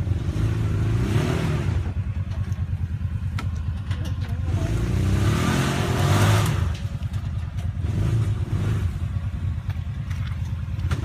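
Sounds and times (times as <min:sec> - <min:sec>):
utility vehicle engine revving: 0:00.0 - 0:11.0.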